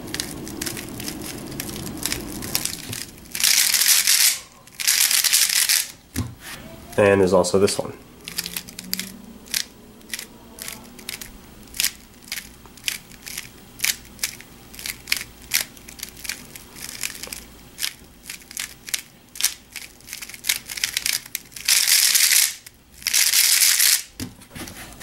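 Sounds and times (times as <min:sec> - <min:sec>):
speed cube plastic layers clicking: 0:00.0 - 0:06.0, 0:08.3 - 0:24.1.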